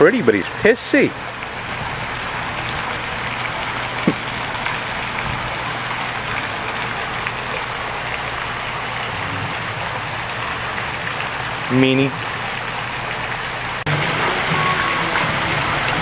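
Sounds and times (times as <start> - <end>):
fountain splashing into pond: 0.0 - 16.0.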